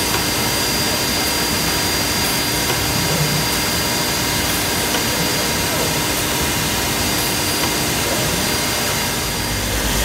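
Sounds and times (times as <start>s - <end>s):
cnc router running: 0.0s - 10.0s.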